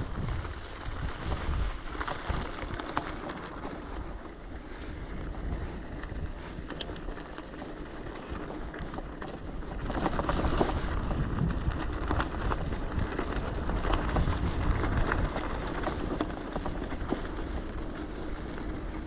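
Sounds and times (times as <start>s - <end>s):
bicycle on dirt track: 0.0s - 19.0s
bike clicks and rattles: 0.0s - 19.0s
wind buffeting microphone: 0.0s - 19.0s.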